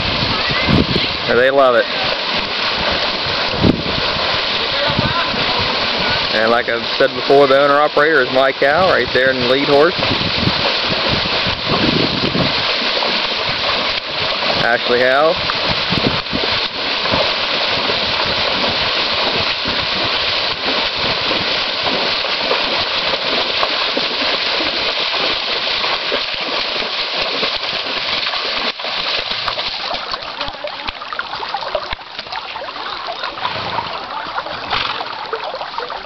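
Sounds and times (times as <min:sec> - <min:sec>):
horses splashing through water: 0:00.0 - 0:36.0.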